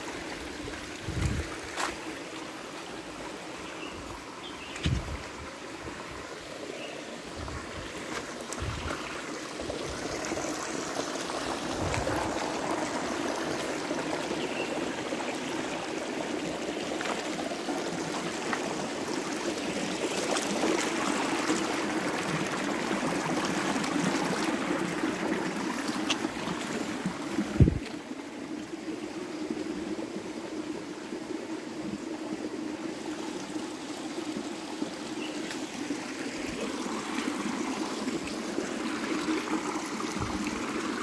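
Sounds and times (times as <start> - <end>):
stream trickling over stones: 0.0 - 41.0.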